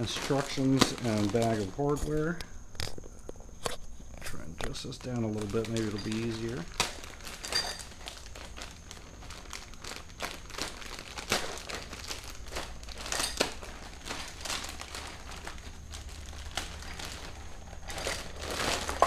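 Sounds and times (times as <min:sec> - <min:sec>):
plastic bags rustling: 0:00.0 - 0:19.0.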